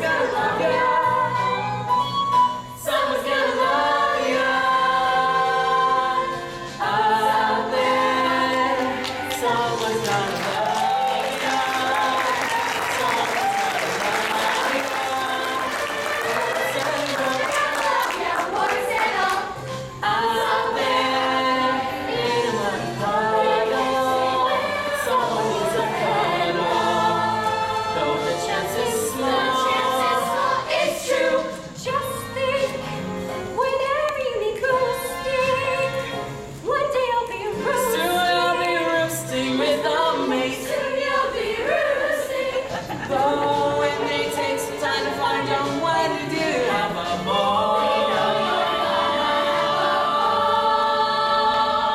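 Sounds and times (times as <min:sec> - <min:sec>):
choir singing in harmony: 0:00.0 - 0:51.9.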